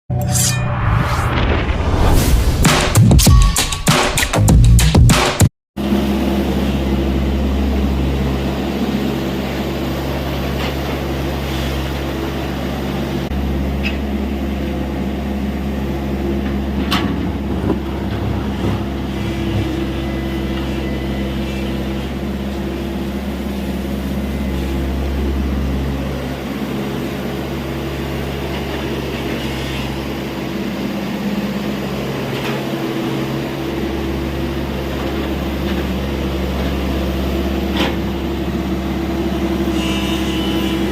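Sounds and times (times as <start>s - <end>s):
excavator diesel engine running: 5.8s - 40.9s.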